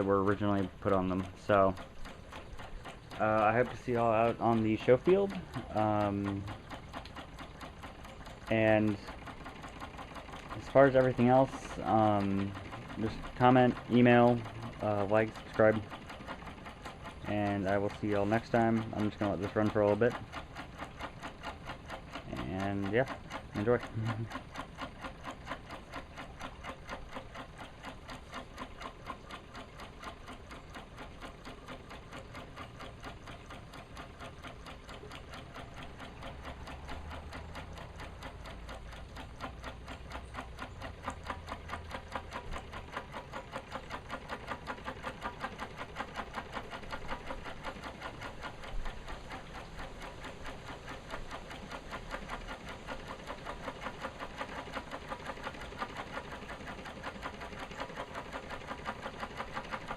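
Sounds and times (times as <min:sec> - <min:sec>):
model steam engine running: 0:00.0 - 0:59.9.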